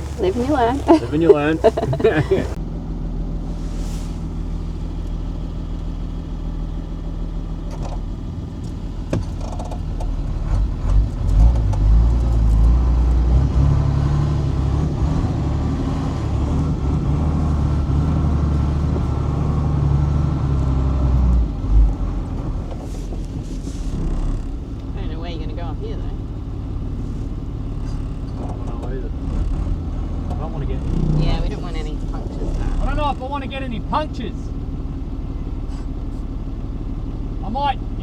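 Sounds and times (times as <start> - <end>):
truck diesel engine running: 0.0 - 9.1, 12.8 - 38.0.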